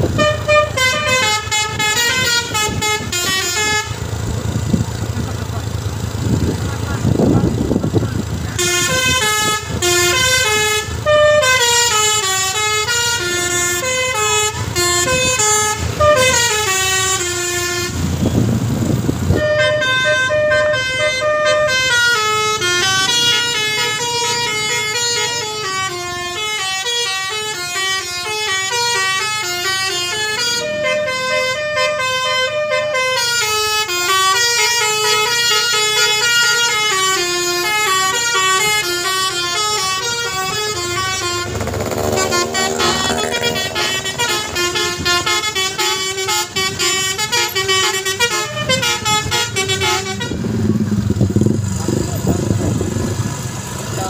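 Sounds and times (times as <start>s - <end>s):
musical bus air horn melody: 0.0s - 4.4s, 8.4s - 18.5s, 19.3s - 50.6s.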